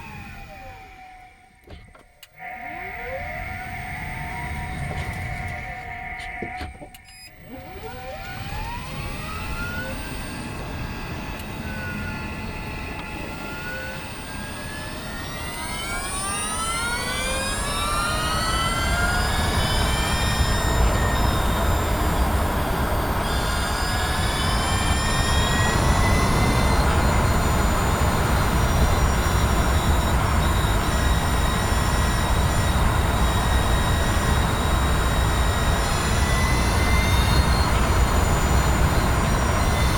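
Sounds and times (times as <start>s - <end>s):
car driveline whine: 0.0s - 39.9s.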